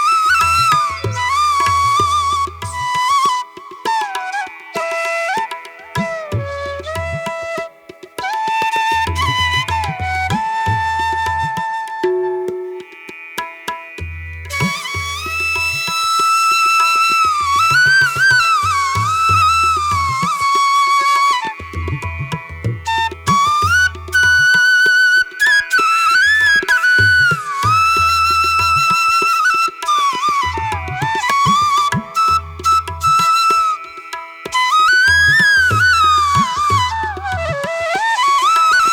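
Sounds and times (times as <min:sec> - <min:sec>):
flute-like melody with bending notes: 0:00.0 - 0:12.8, 0:14.4 - 0:38.9.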